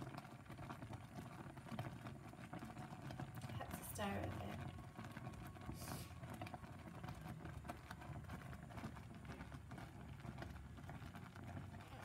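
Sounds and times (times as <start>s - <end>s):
jam bubbles popping: 0.0s - 12.0s
low steady rumble: 1.9s - 12.0s.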